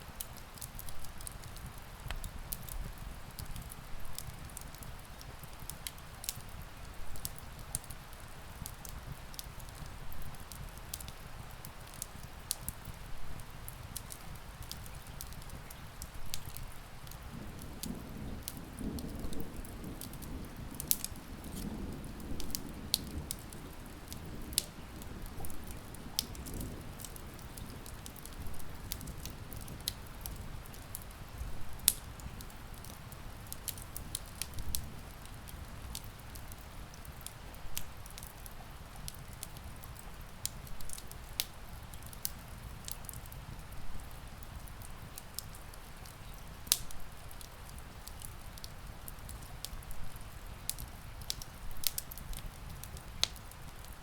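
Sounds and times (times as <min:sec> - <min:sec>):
rain pattering on a window: 0:00.0 - 0:54.0
wood fire crackling: 0:00.0 - 0:54.0.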